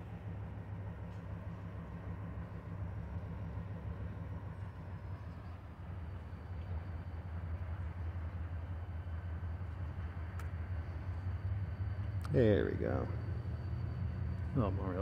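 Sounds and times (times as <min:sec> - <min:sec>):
distant diesel locomotive engine: 0:00.0 - 0:15.0.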